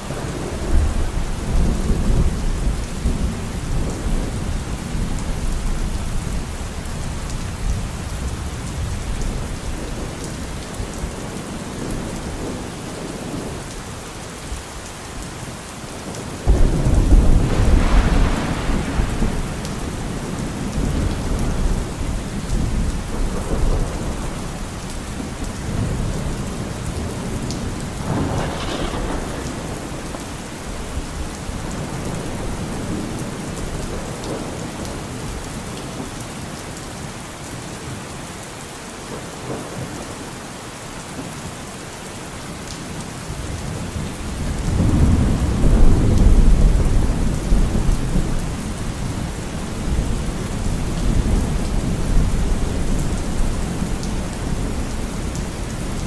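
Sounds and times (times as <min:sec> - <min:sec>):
thunder rumbling: 0:00.0 - 0:13.6, 0:16.2 - 0:35.4, 0:43.4 - 0:56.0
steady rain: 0:00.0 - 0:56.0.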